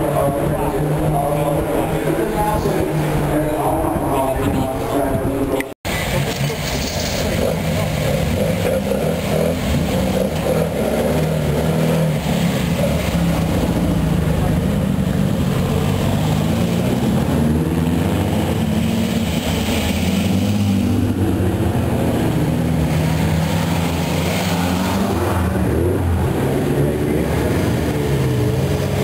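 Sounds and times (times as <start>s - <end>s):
car engines passing slowly: 0.0s - 29.0s.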